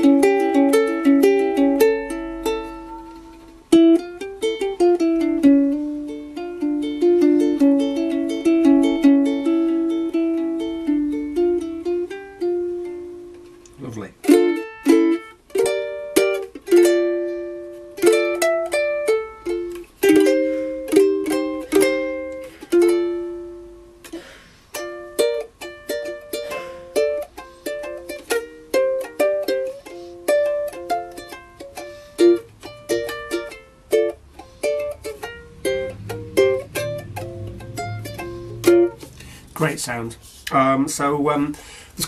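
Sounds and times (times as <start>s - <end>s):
ukulele fingerpicked: 0.0s - 41.5s.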